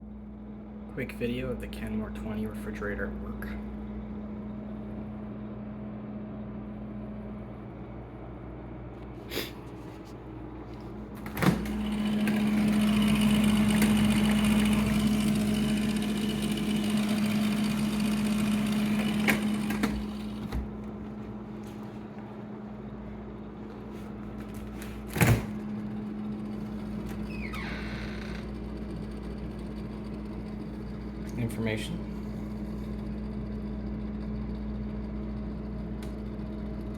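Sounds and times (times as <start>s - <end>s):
refrigerator humming: 0.0s - 36.9s.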